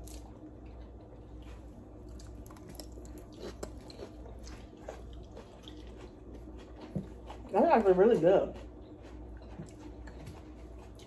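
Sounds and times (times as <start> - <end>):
low steady hum: 0.0 - 11.0
soft chewing: 0.0 - 11.0.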